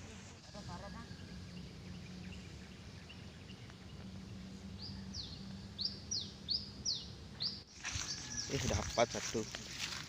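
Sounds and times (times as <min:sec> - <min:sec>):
bird chirping: 0:00.4 - 0:10.0.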